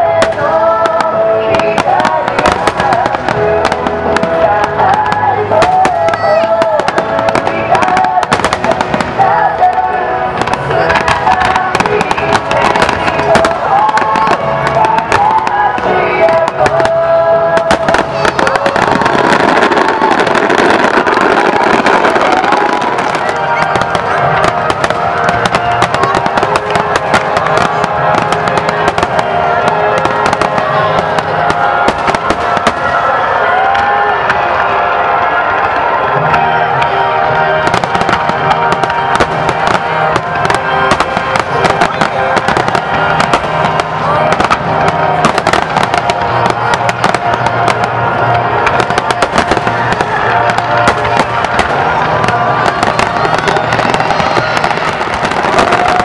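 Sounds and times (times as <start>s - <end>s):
fireworks bursting and crackling: 0.0s - 56.0s
music playing: 0.0s - 56.0s.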